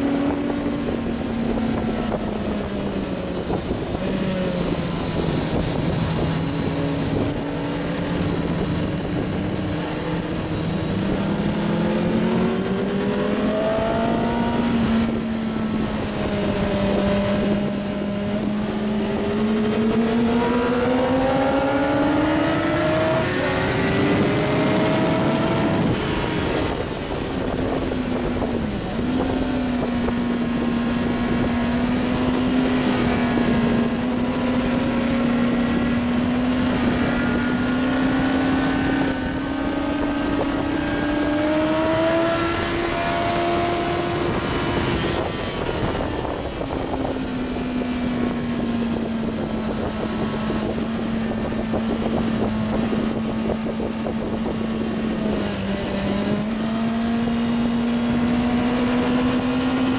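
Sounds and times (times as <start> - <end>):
motorcycle engine at high revs: 0.0 - 59.9
wind rush: 0.0 - 59.9.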